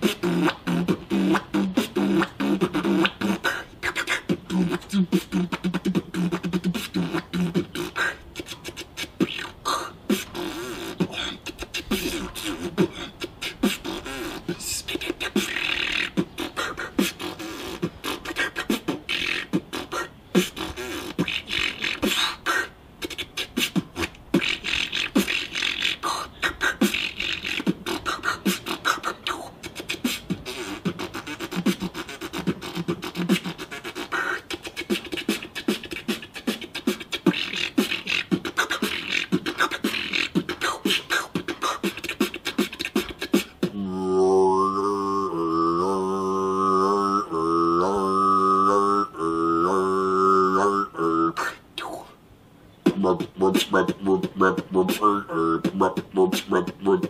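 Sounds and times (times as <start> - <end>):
beatboxing: 0.0 - 52.2, 52.8 - 57.0.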